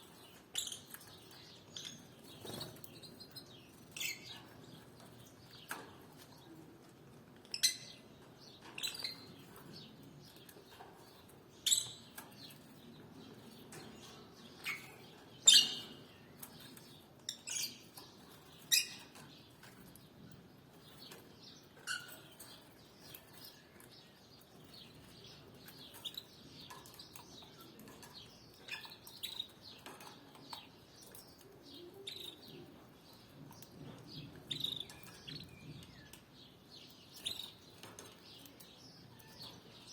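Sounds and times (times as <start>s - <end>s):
canaries chirping: 0.0s - 39.9s.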